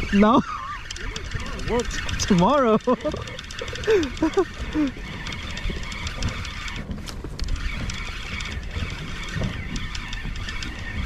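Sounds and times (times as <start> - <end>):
water around boat: 0.0 - 11.0
wind rumbling: 0.0 - 11.0.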